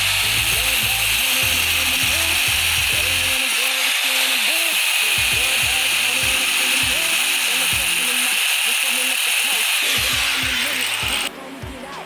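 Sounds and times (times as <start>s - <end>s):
angle grinder cutting steel: 0.0s - 11.3s
background music: 0.0s - 12.0s.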